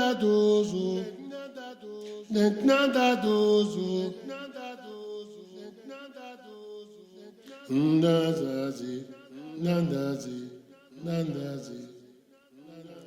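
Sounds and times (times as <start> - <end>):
person singing slow chant: 0.0 - 13.0.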